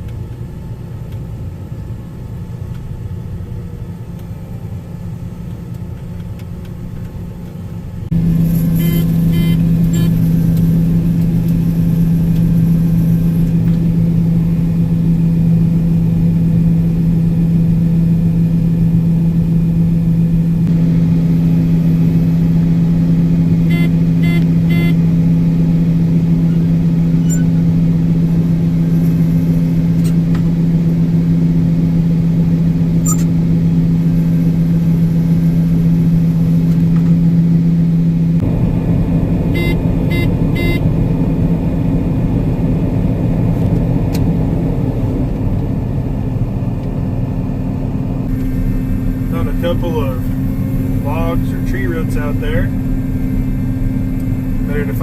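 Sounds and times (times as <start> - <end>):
large engine humming: 0.0 - 55.0.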